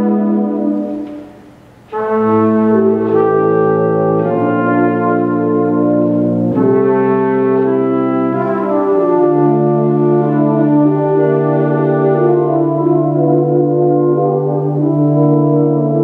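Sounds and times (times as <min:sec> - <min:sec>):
brass ensemble playing chords: 0:00.0 - 0:16.0
deep tuba bass notes: 0:00.0 - 0:16.0.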